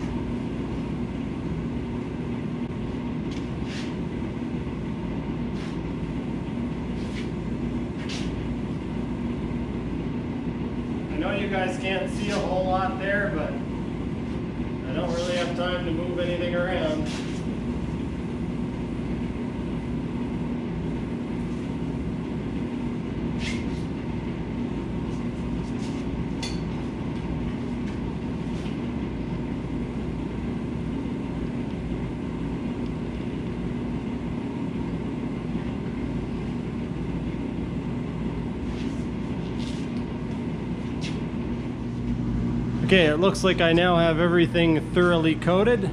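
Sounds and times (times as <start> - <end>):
electric blower fan humming: 0.0 - 45.9.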